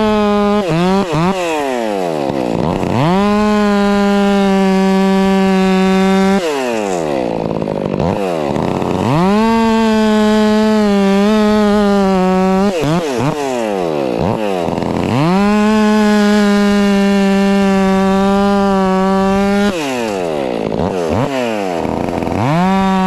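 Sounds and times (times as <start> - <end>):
chainsaw at full throttle: 0.0 - 23.0.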